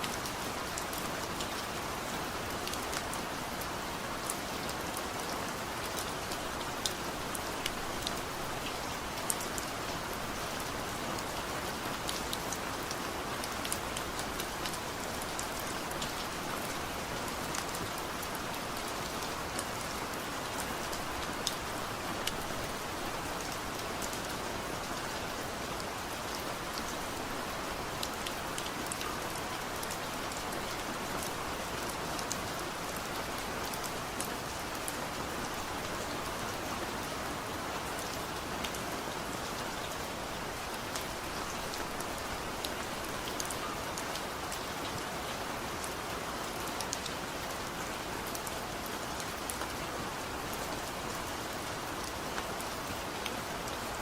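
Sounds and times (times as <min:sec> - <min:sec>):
raindrops ticking on a surface: 0:00.0 - 0:54.0.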